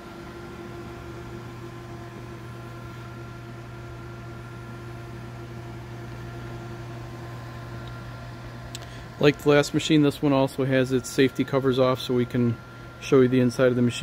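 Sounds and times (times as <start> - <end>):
faint steady whine: 0.0 - 14.0
fan noise: 0.0 - 14.0
machine low hum: 0.0 - 14.0.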